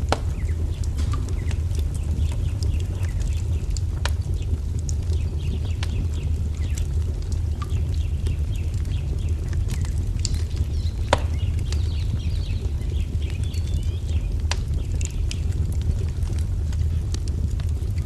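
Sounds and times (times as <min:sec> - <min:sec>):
low rumble: 0:00.0 - 0:18.0
wood fire crackling and popping: 0:00.0 - 0:18.0.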